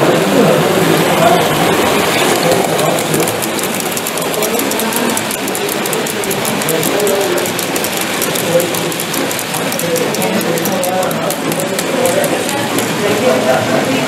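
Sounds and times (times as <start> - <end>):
exhibition hall din: 0.0 - 14.0
model train clicking over track: 1.7 - 13.3.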